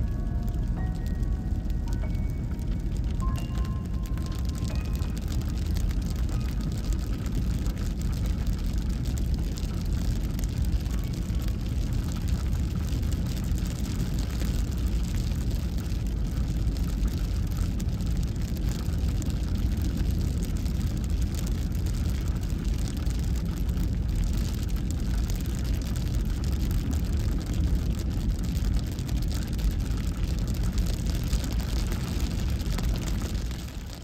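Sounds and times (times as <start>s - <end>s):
rain pattering on windshield: 0.0s - 34.0s
vehicle road hum: 0.0s - 34.0s.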